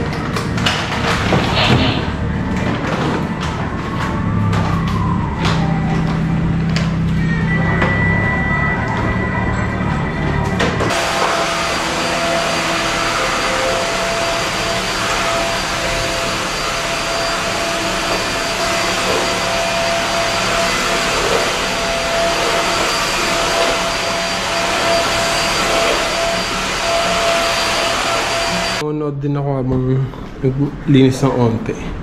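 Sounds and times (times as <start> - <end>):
vacuum cleaner running: 0.0 - 28.8.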